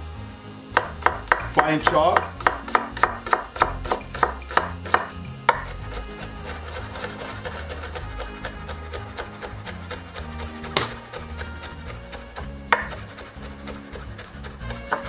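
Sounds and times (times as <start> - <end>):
knife chopping on wooden board: 0.8 - 15.0.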